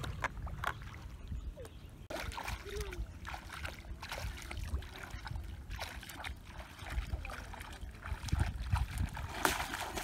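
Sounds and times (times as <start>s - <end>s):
bare feet wading through water: 0.0s - 10.0s.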